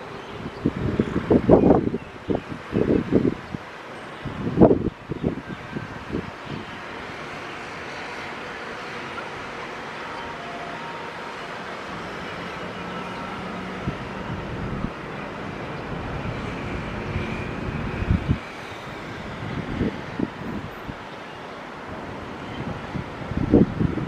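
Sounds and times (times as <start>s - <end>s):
wind gusts hitting microphone: 0.0s - 9.7s, 13.2s - 21.1s, 21.8s - 24.0s
distant jet engine with whine: 0.0s - 24.0s.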